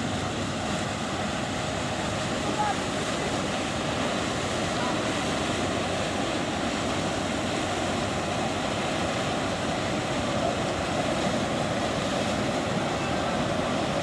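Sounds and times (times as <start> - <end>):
passing motor ship rushing: 0.0 - 14.0.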